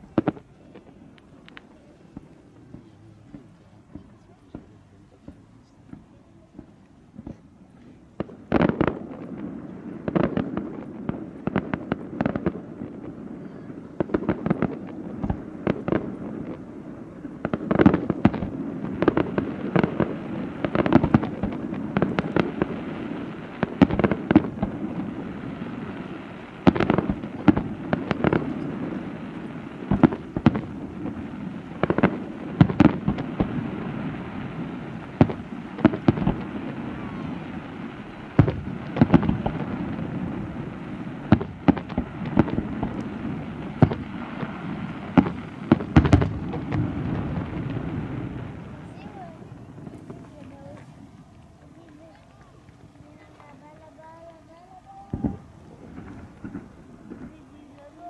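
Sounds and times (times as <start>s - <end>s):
fireworks bangs and pops: 0.0s - 58.0s.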